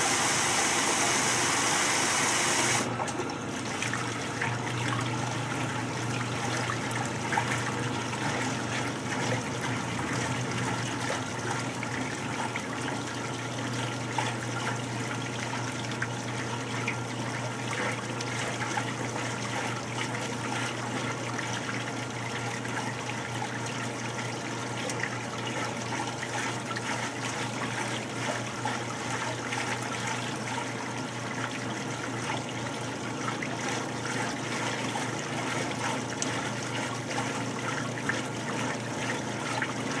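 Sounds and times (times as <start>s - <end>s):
water pouring into washing machine: 0.0s - 40.0s.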